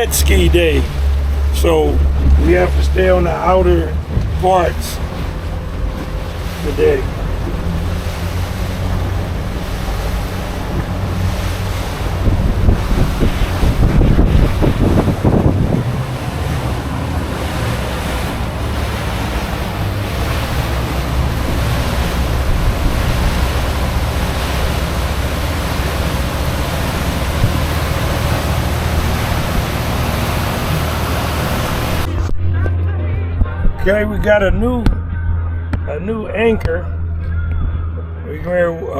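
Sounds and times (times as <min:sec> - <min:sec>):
wind buffeting microphone: 0:00.0 - 0:35.4
outboard motor drone: 0:00.0 - 0:38.9
water rushing past hull: 0:00.0 - 0:38.9.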